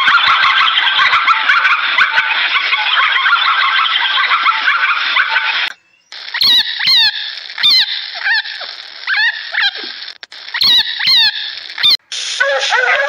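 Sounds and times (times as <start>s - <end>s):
dense chirping: 0.0s - 12.5s
young rabbits squeaking: 0.0s - 13.0s.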